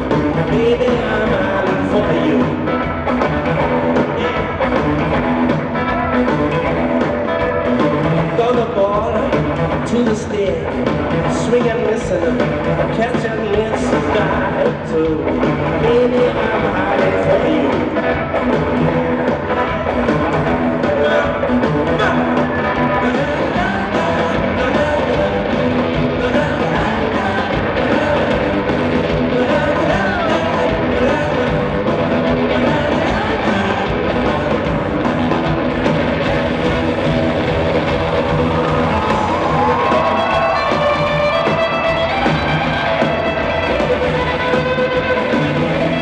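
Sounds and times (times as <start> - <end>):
bass guitar: 0.0 - 46.0
drum kit: 0.0 - 46.0
electric guitar: 0.0 - 46.0
live blues rock band: 0.0 - 46.0.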